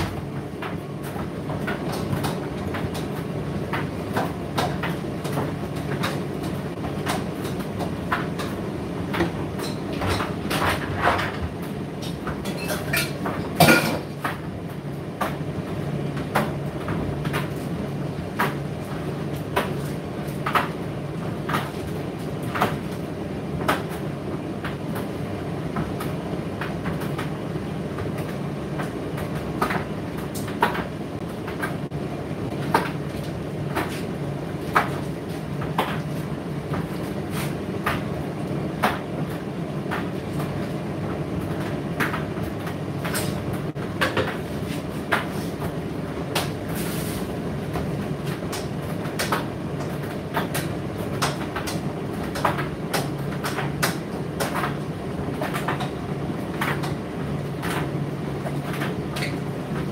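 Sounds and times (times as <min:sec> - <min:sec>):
tumble dryer motor humming: 0:00.0 - 0:59.9.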